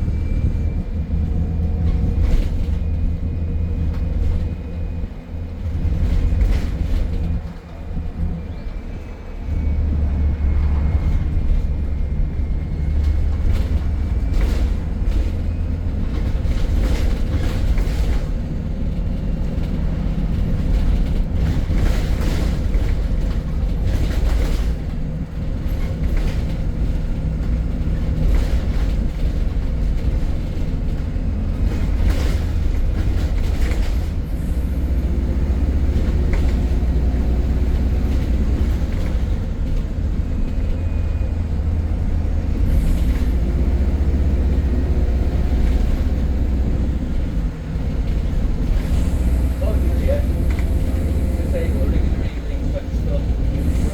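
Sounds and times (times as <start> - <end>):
bus engine and road rumble: 0.0 - 53.9.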